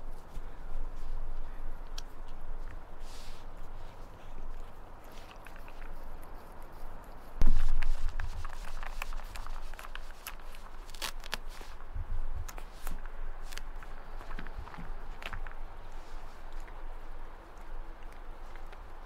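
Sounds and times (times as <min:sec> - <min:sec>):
cats crunching treats: 0:01.8 - 0:06.8, 0:07.6 - 0:11.8, 0:12.4 - 0:19.0.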